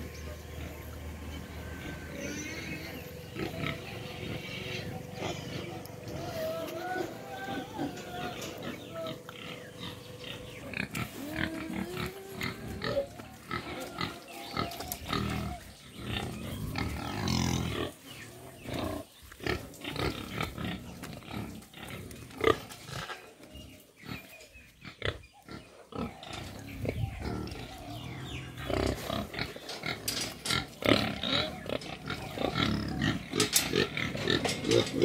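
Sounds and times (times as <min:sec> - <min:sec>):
pigs grunting: 0:00.0 - 0:35.0.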